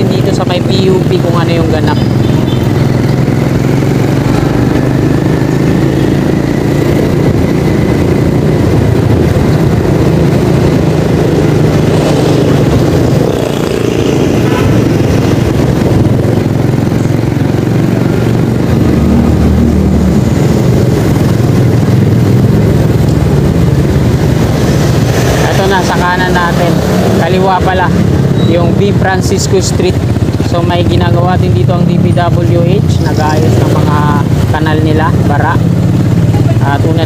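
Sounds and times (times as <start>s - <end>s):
motorcycle engine running: 0.0s - 37.0s
street traffic: 0.0s - 37.0s.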